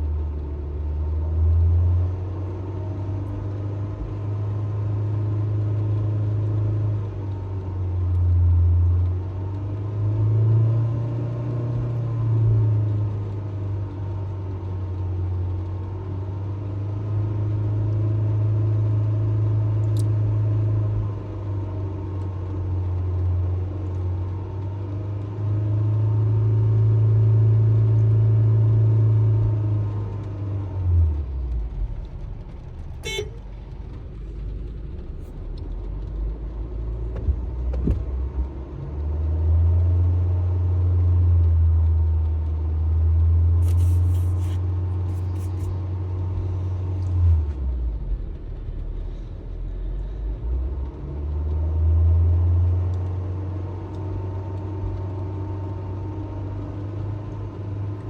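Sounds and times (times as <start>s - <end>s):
car engine revving and idling: 0.0s - 58.0s.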